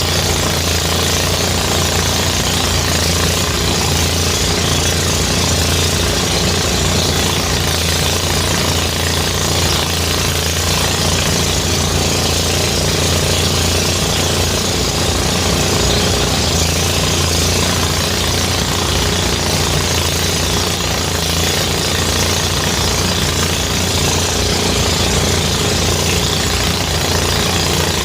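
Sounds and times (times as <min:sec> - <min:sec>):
rattling hiss of threshing: 0:00.0 - 0:28.0
threshing machine engine drone: 0:00.0 - 0:28.0.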